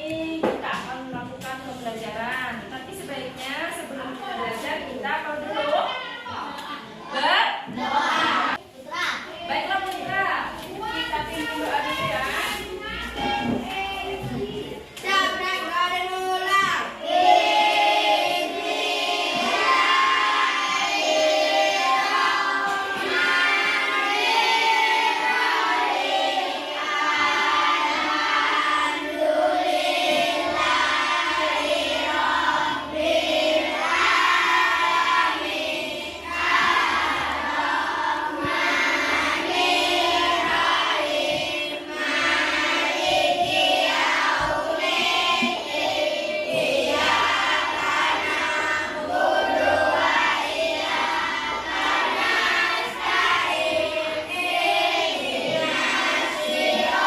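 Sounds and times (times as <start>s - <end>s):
children chanting in unison: 5.9s - 9.2s, 11.1s - 57.0s.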